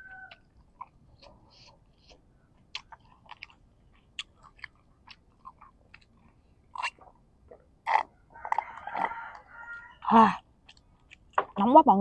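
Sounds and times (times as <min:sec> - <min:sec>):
wet chewing clicks and smacks: 0:00.0 - 0:11.6.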